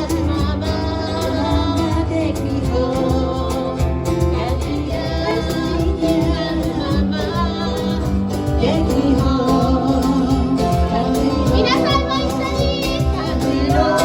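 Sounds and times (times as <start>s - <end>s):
live band playing: 0.0s - 14.0s
person singing: 0.0s - 14.0s.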